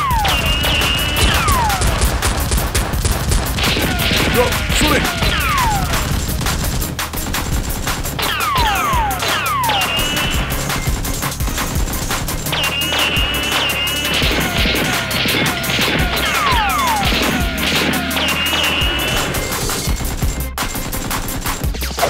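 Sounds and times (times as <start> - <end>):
automatic gunfire sound effects: 0.0 - 21.7.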